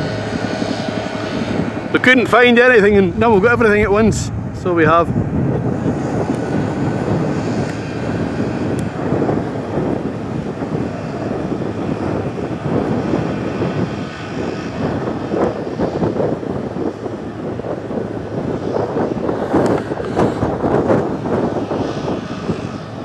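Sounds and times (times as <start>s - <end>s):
helicopter rotor and engine: 0.0s - 23.0s.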